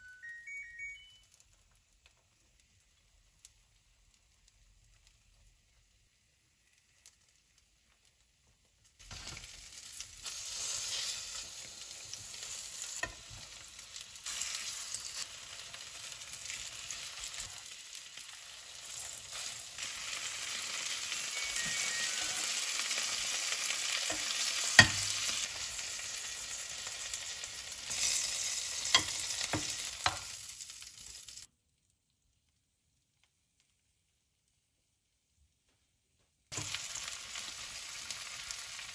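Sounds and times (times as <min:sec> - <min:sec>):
patties sizzling in oil: 0:01.2 - 0:34.7, 0:36.4 - 0:38.9.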